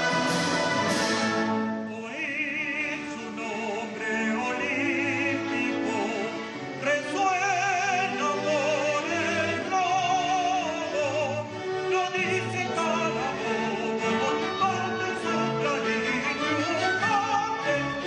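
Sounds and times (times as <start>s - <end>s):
operatic singing with vibrato: 0.0s - 18.0s
symphony orchestra: 0.0s - 18.0s.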